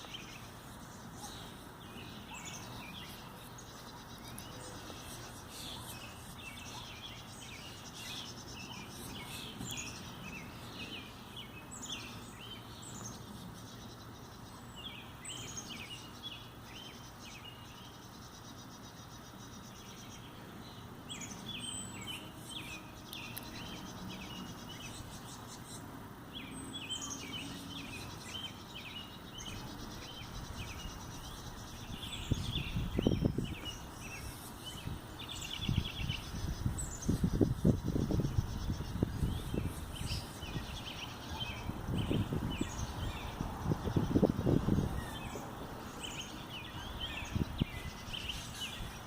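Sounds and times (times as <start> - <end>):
small bird chirping: 0.0 - 49.0.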